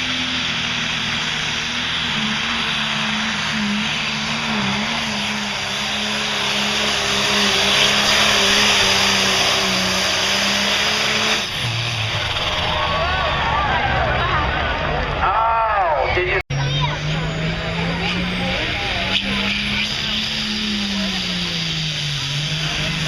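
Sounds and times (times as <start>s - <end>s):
tractor engine running flat out: 0.0s - 23.0s.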